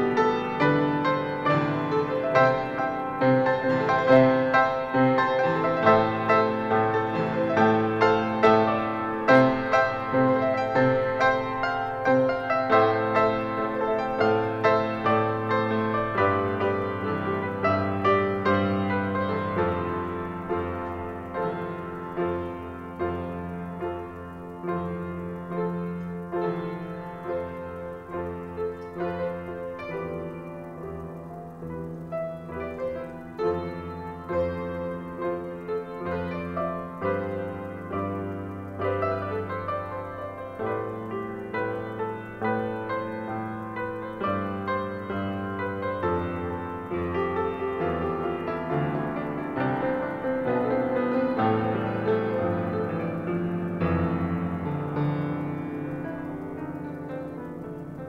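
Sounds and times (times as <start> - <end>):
keyboard chords: 0.0 - 58.0
piano music: 0.0 - 58.0.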